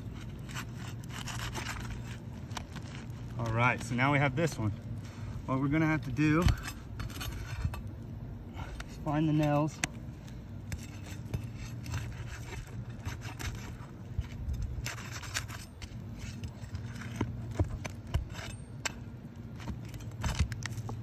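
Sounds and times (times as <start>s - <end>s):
pry bar scraping gritty shingles: 0.0s - 21.0s.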